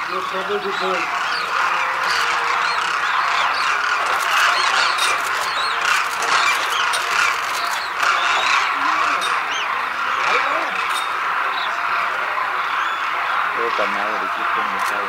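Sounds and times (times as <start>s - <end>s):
flock of cranes calling: 0.0s - 15.0s.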